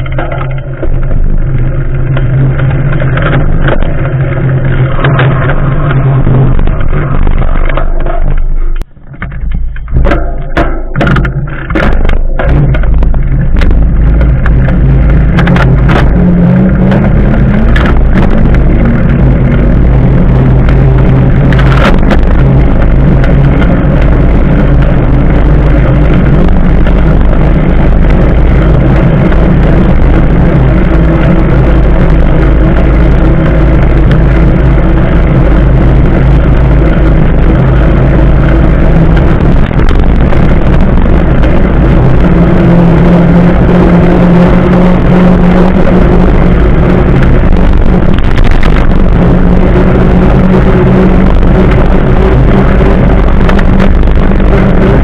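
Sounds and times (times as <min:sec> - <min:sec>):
tyre hum on asphalt: 0:00.0 - 0:55.0
wind on microphone: 0:00.0 - 0:55.0.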